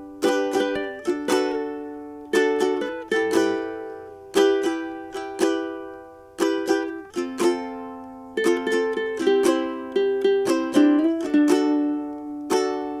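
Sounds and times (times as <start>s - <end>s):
ukulele strumming chords: 0.0s - 13.0s.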